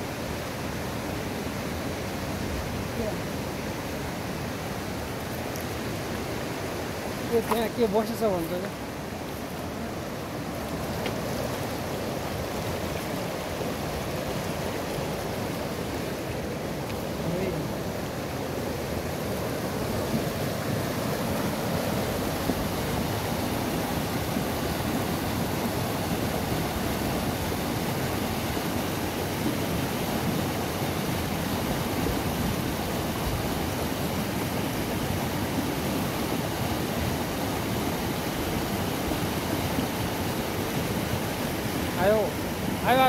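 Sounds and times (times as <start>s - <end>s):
river rushing through boulders: 0.0s - 43.0s.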